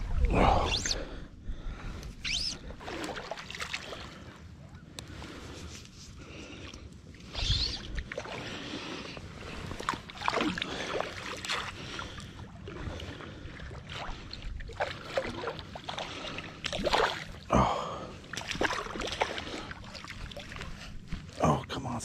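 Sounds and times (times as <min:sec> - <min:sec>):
water splashing and sloshing: 0:00.0 - 0:21.6.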